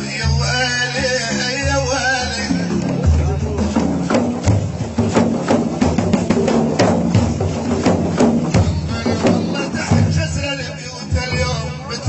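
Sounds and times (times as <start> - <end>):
rhythmic drum beat: 0.0 - 12.0
sustained low instrumental notes: 0.0 - 12.0.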